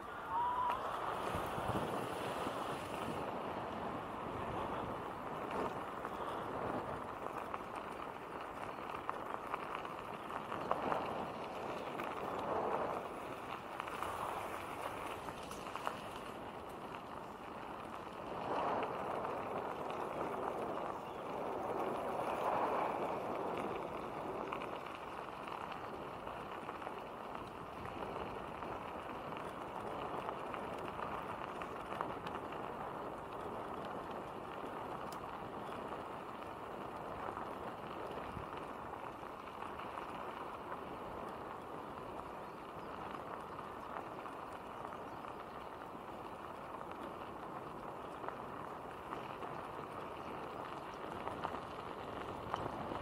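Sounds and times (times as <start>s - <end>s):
bicycle tyres on gravel: 0.0s - 53.0s
wind on microphone: 0.0s - 53.0s.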